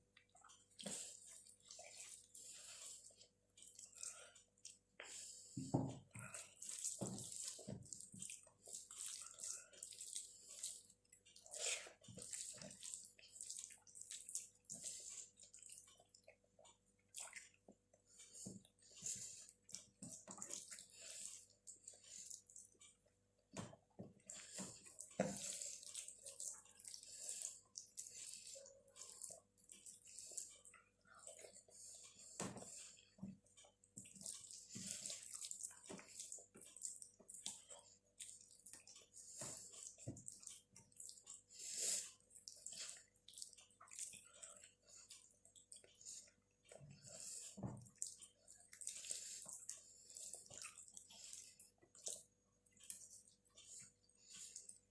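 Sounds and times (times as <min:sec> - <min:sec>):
wet chewing and mouth sounds: 0:00.0 - 0:54.9.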